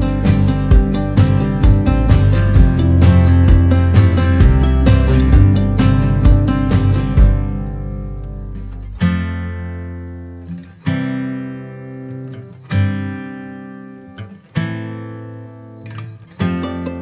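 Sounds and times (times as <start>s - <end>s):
guitar chord strummed: 0.0s - 17.0s.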